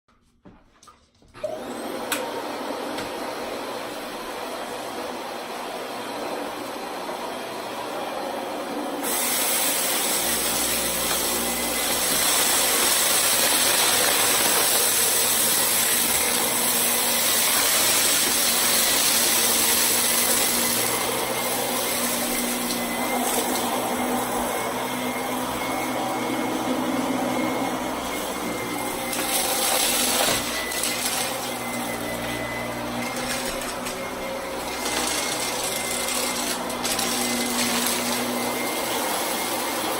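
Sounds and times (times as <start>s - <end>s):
vacuum cleaner motor whining: 1.4s - 39.9s.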